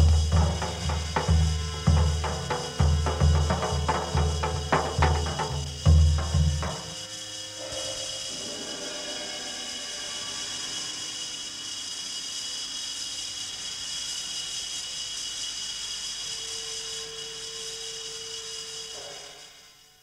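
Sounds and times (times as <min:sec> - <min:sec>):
steady hiss with whistling tones: 0:00.0 - 0:20.0.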